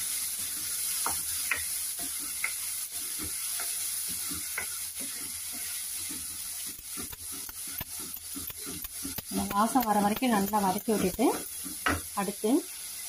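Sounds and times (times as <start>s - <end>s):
paste sizzling in oil: 0.0s - 13.0s
spoon scraping a pan: 0.7s - 12.1s.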